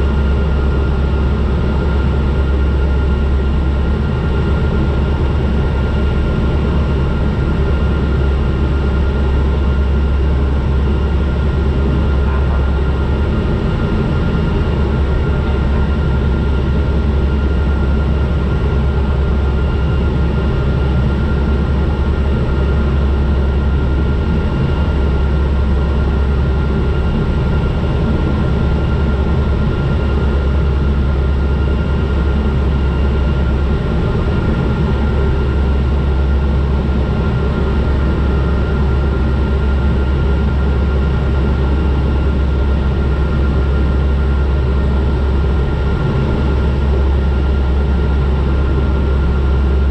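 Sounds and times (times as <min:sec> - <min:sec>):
engine and propeller drone: 0:00.0 - 0:49.9
thin steady whine: 0:00.0 - 0:49.9.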